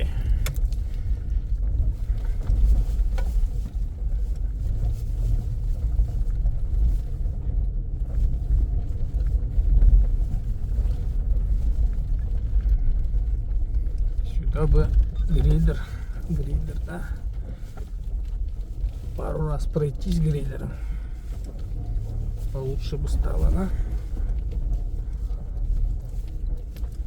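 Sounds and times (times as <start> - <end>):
tyres rumbling on dirt road: 0.0 - 27.0.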